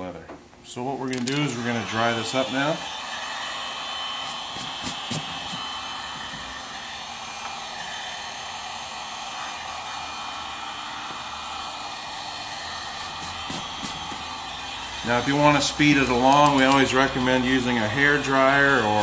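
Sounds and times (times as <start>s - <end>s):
hot-air blower running: 1.1s - 19.0s.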